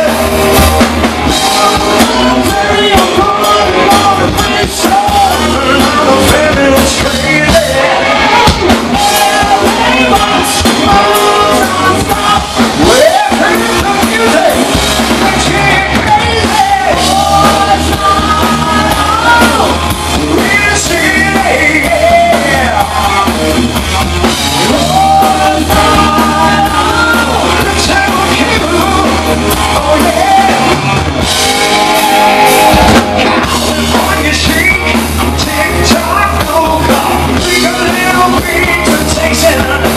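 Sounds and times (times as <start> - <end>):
live rock band playing: 0.0 - 39.9
man singing: 0.0 - 39.9.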